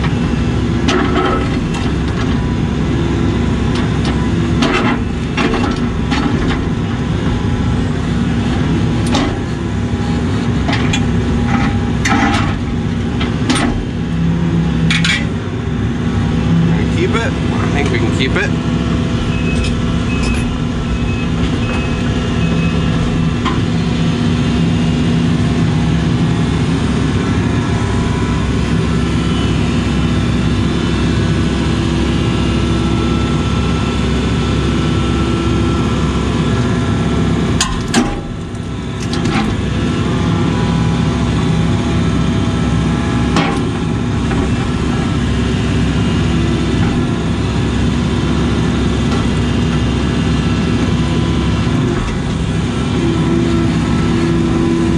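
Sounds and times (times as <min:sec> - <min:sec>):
excavator diesel engine and hydraulics: 0:00.0 - 0:54.9.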